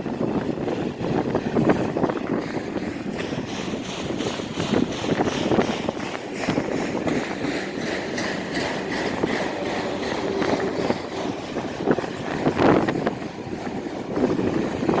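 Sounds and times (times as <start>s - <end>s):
freight train wheels clicking: 0.0s - 15.0s
wind on microphone: 0.0s - 15.0s.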